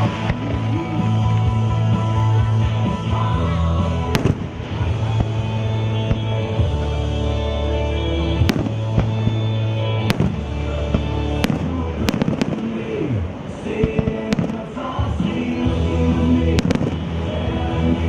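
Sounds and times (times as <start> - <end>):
fireworks bangs: 0.0 - 1.6, 3.9 - 7.6, 8.2 - 17.6
music playing: 0.0 - 18.0.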